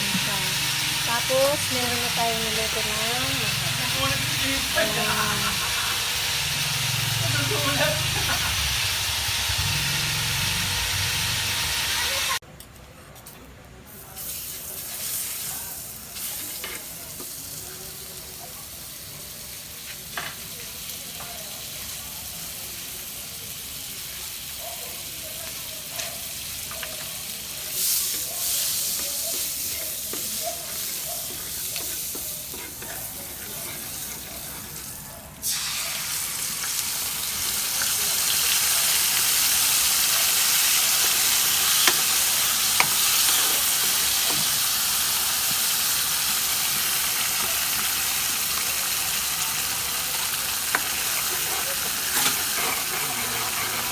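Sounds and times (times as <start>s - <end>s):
chicken frying in hot oil: 0.0s - 12.4s, 13.9s - 53.9s.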